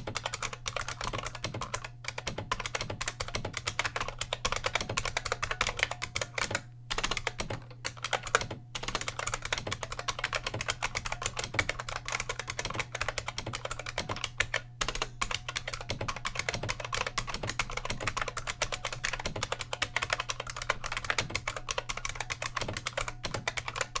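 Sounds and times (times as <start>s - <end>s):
fast typing on clicky keyboard: 0.0s - 24.0s.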